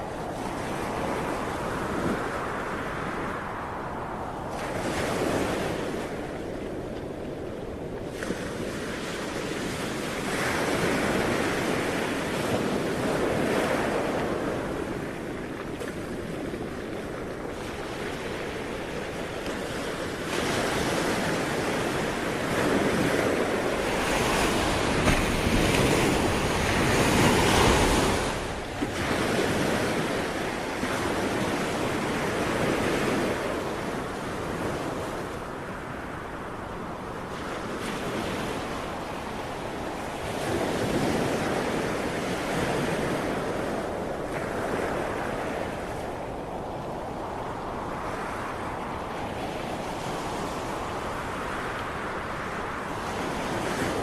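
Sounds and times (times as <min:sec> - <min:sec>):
sea waves washing ashore: 0:00.0 - 0:54.0
wind on microphone: 0:00.0 - 0:54.0.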